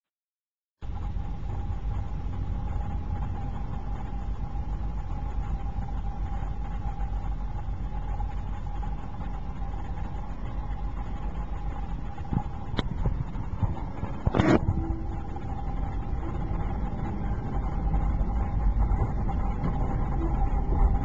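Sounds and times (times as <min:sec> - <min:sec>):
constant whine: 0:00.8 - 0:21.0
train rumble: 0:00.8 - 0:21.0.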